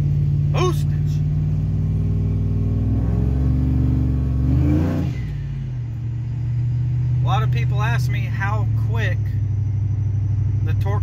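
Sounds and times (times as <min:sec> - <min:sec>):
engine accelerating hard: 0:00.0 - 0:11.0.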